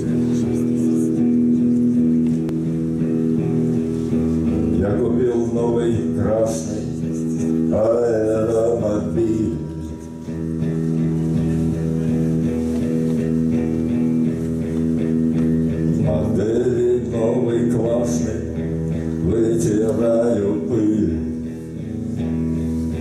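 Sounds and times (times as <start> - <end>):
bass guitar: 0.0 - 23.0
electric guitar sustained notes: 0.0 - 23.0
wavering gliding guitar phrases: 0.0 - 23.0.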